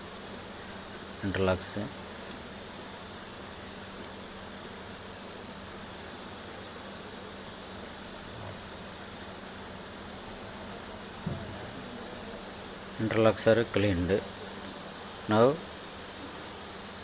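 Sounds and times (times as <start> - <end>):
even hiss: 0.0 - 17.0
steady low hum: 0.0 - 17.0.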